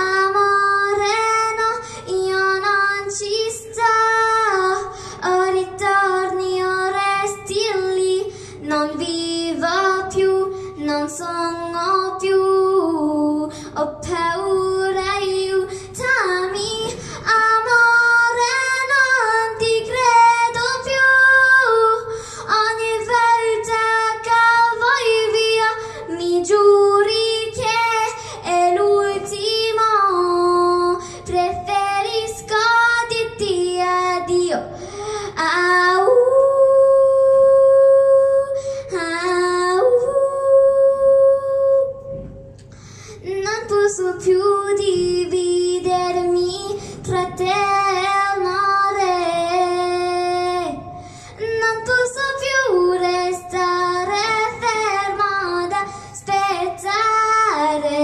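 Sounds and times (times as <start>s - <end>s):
girl singing into microphone: 0.0s - 58.0s.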